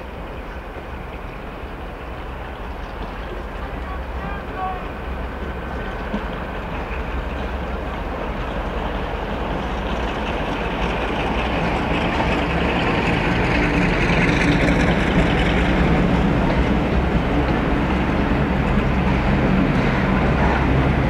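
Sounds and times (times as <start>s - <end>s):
diesel locomotive engine running: 0.0s - 21.0s.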